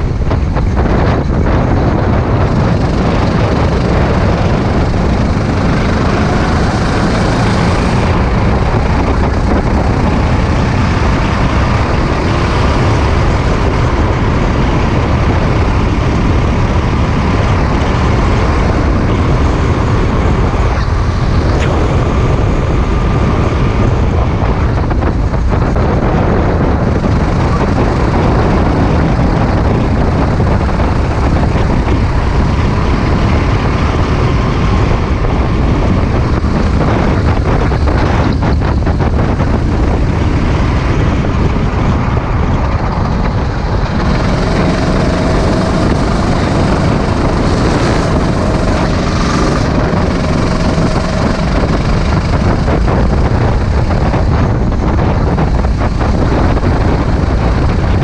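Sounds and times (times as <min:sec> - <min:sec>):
kart engine drone: 0:00.0 - 0:58.0
wind noise on microphone: 0:00.0 - 0:58.0.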